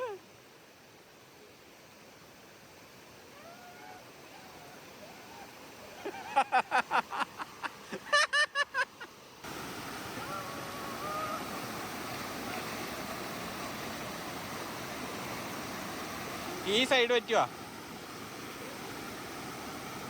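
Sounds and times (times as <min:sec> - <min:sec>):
waterfall stream rushing: 0:02.0 - 0:20.0.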